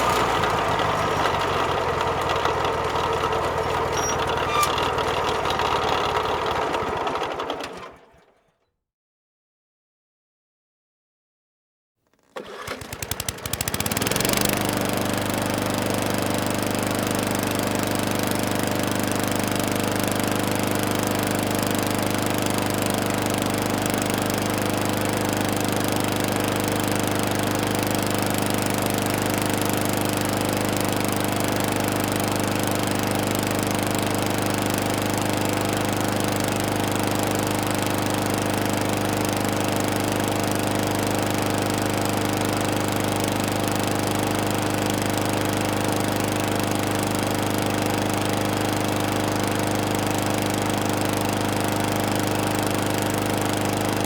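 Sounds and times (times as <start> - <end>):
lawn mower engine starting: 0.0 - 8.5, 12.1 - 54.0.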